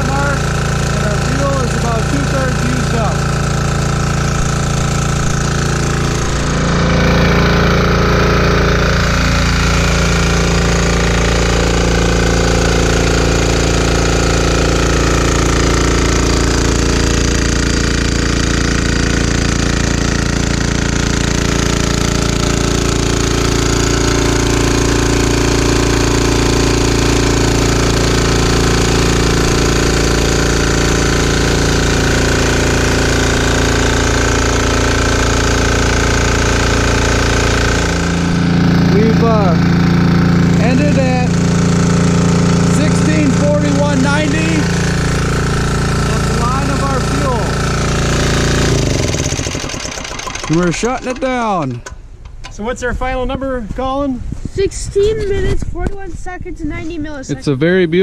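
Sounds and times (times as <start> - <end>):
diesel generator clattering: 0.0 - 52.9.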